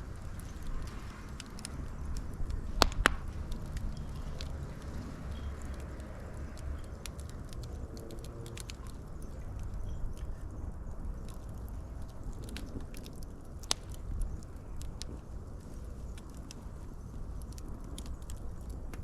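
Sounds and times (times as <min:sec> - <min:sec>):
sharp pops of fire: 0:00.0 - 0:10.4, 0:11.1 - 0:19.0
wood fire crackling: 0:00.0 - 0:19.0.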